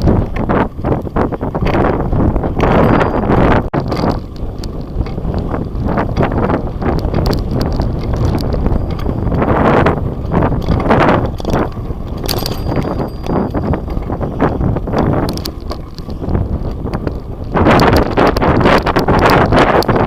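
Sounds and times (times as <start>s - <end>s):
bicycle clicks and rattles: 0.0s - 20.0s
wind buffeting microphone: 0.0s - 20.0s.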